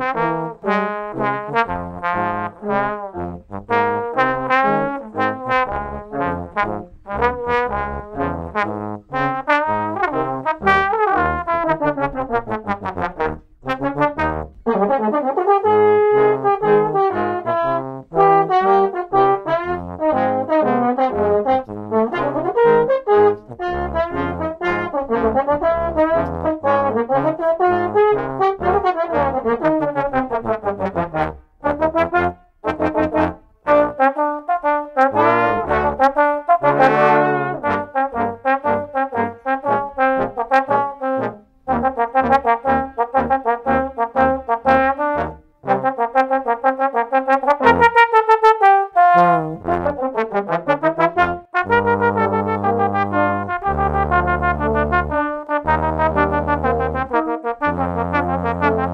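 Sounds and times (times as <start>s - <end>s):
trombone quartet playing: 0.0s - 58.9s.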